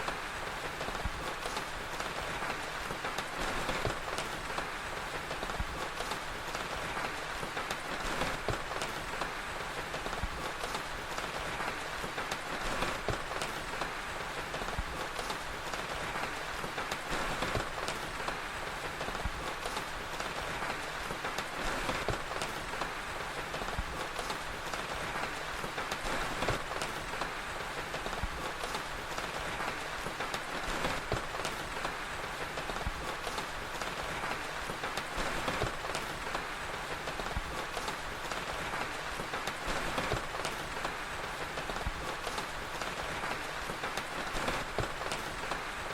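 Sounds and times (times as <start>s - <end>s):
steady rain: 0.0s - 45.9s
wood fire crackling: 0.0s - 45.9s.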